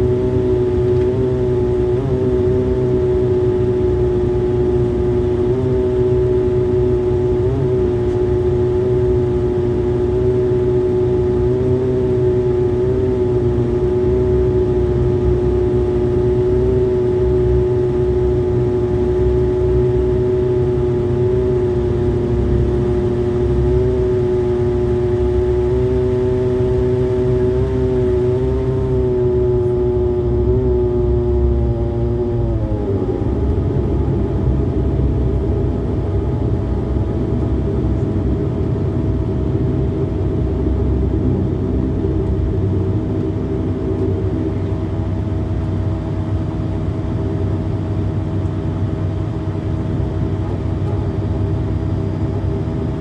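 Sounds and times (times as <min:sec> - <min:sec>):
airliner engines running: 0:00.0 - 0:53.0.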